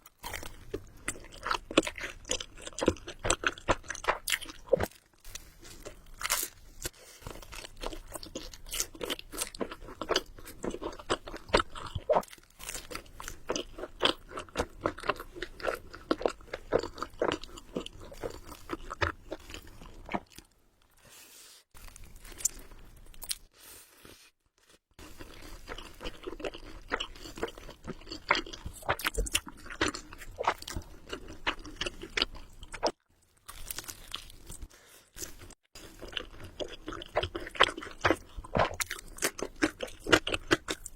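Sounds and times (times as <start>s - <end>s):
person chewing food: 0.0s - 21.0s, 21.7s - 40.9s.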